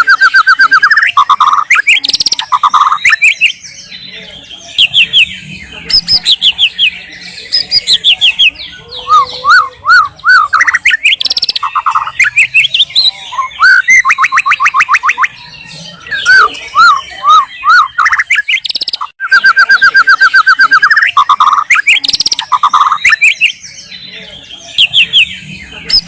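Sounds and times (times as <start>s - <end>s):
bird singing whistles and trills: 0.0s - 26.0s.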